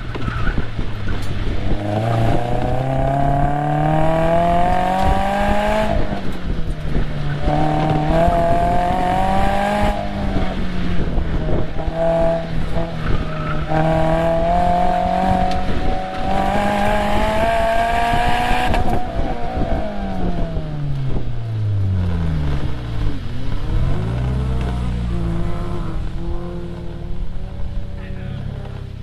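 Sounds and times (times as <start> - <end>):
car engine accelerating and slowing: 0.0 - 29.0.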